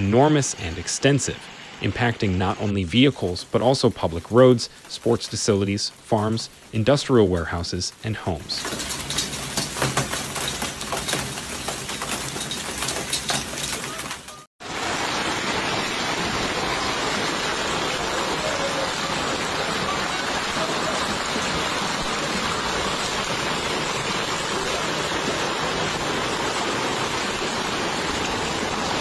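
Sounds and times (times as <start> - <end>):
heavy rain and hail on a street: 0.0 - 29.0
hailstones hitting a hard surface: 3.4 - 29.0.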